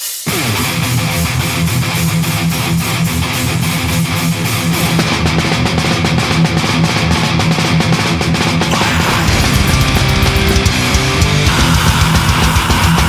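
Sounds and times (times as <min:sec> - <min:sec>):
death metal band playing: 0:00.0 - 0:13.0
downward guitar slide: 0:00.1 - 0:13.0.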